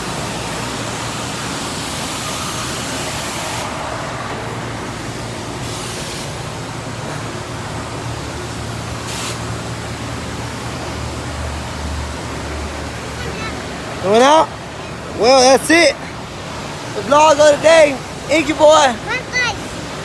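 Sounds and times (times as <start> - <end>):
pressure washer spray hissing: 0.0 - 20.0.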